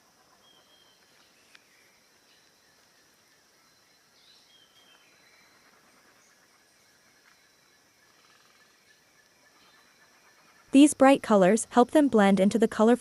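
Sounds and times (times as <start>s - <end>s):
high insect drone: 0.0s - 11.6s.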